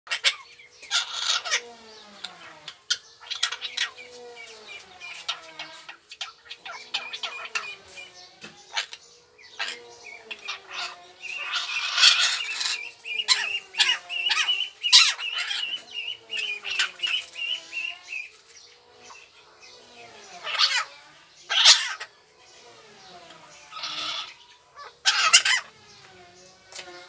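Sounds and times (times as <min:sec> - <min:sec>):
bird warbling trill: 0:00.1 - 0:27.0
small birds chirping: 0:00.1 - 0:27.0
steady wavering low tone: 0:00.4 - 0:27.0.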